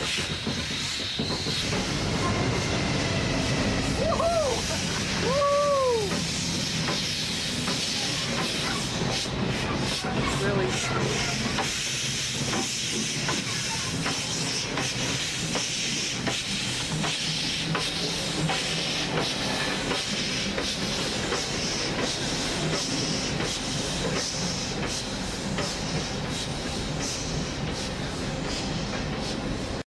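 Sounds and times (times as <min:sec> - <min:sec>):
steam hissing: 0:00.0 - 0:29.8.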